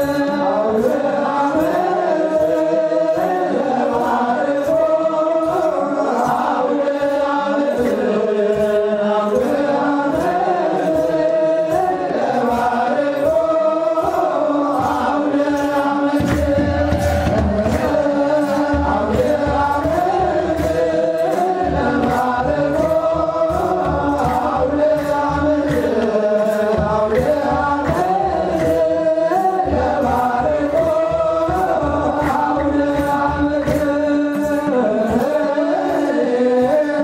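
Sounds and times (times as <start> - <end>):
drum strokes: 0.0 - 37.0
men chanting a hymn: 0.0 - 37.0.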